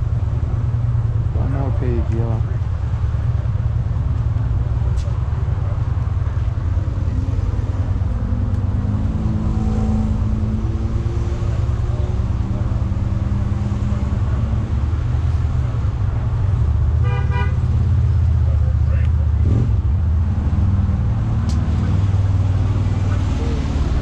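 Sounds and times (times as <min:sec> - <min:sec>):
low rumble of motor vehicles: 0:00.0 - 0:24.0.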